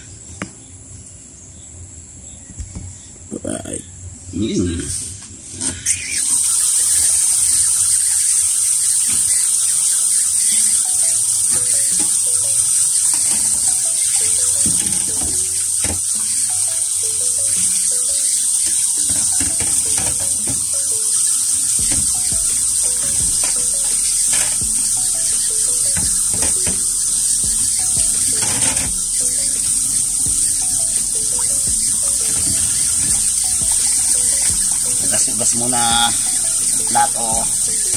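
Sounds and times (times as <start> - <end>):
tap water running into sink: 6.2 - 37.9.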